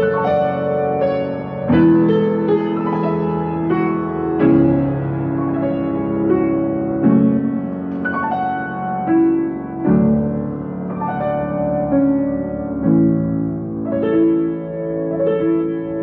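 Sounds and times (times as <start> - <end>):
gentle piano chords: 0.0 - 16.0.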